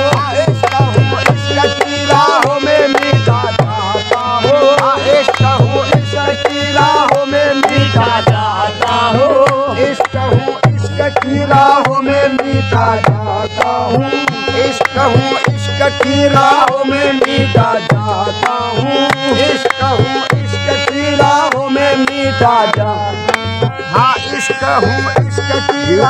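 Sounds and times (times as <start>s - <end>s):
tabla drumming: 0.0s - 26.0s
wavering melody line: 0.0s - 26.0s.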